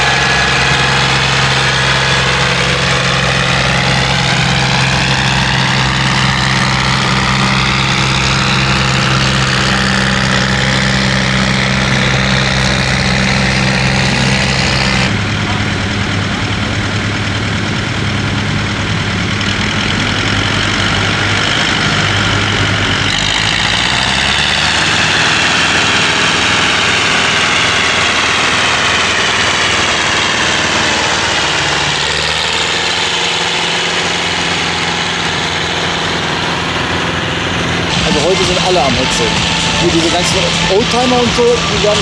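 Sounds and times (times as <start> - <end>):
high whine: 0.0 - 42.0
tractor engine running: 0.0 - 42.0.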